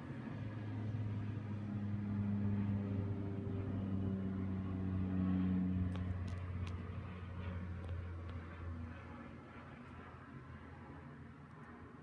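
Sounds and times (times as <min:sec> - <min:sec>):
turboprop plane engines droning: 0:00.0 - 0:12.0.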